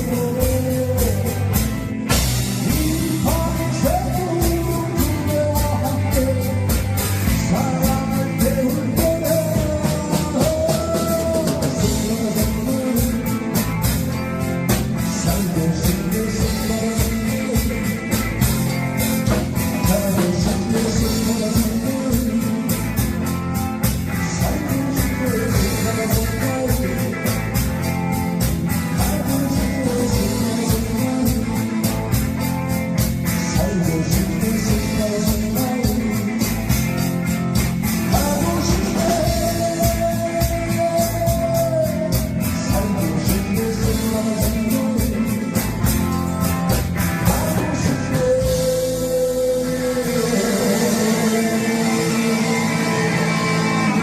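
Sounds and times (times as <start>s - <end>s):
deep bass: 0.0s - 54.0s
drum kit: 0.0s - 54.0s
electric guitar: 0.0s - 54.0s.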